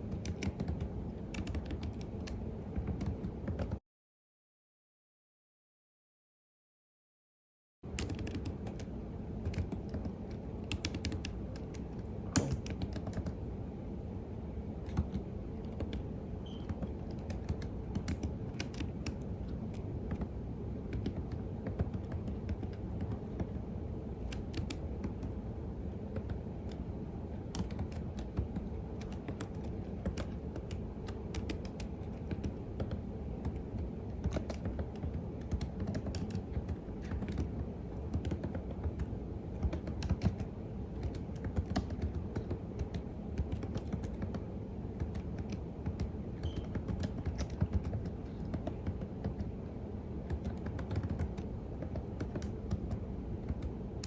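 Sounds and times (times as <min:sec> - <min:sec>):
computer keyboard typing: 0:00.0 - 0:03.8, 0:07.9 - 0:13.4, 0:14.8 - 0:20.3, 0:20.9 - 0:23.6, 0:24.2 - 0:25.4, 0:27.4 - 0:49.6, 0:50.2 - 0:54.0.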